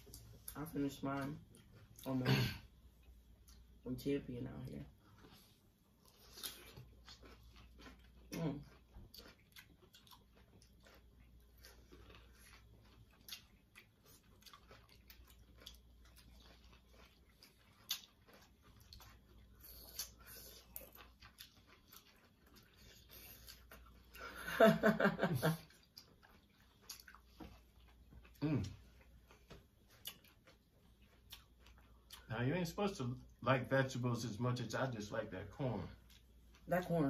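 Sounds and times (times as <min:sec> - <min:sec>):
chewing and mouth sounds: 0:00.0 - 0:02.2, 0:04.8 - 0:24.6, 0:25.4 - 0:32.4, 0:35.8 - 0:37.0.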